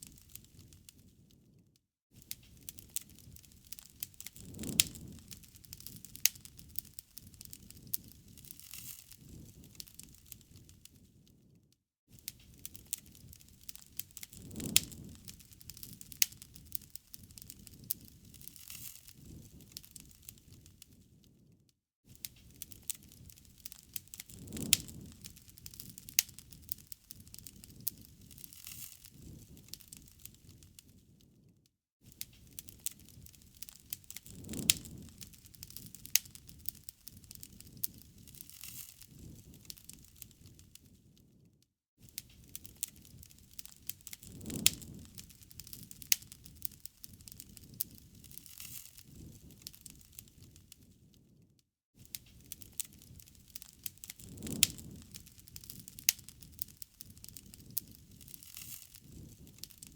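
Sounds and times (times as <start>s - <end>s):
campfire crackling and popping: 0.0s - 1.2s, 2.2s - 11.3s, 12.1s - 21.5s, 22.1s - 31.2s, 32.1s - 41.3s, 42.1s - 51.3s, 52.0s - 59.9s.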